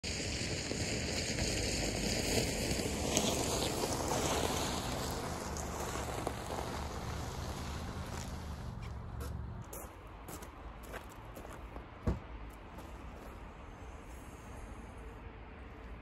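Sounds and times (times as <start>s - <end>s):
vehicle engine and tyres rumbling: 0.0s - 16.0s.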